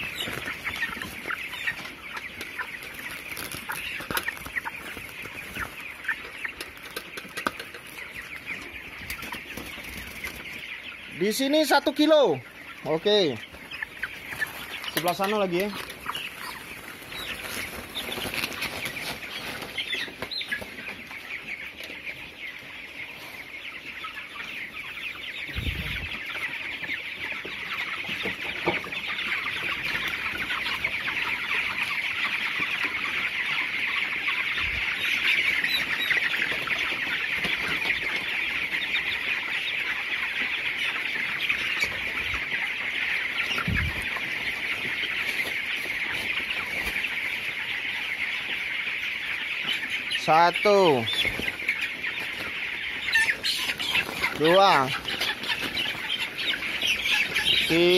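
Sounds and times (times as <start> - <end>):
chickens chirping and clucking: 0.0 - 57.9.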